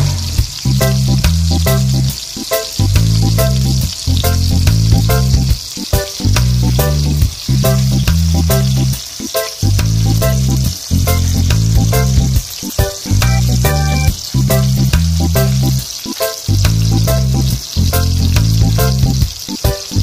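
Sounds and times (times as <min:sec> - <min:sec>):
fish sizzling in frying pan: 0:00.0 - 0:20.0
music with heavy bass beat: 0:00.0 - 0:20.0.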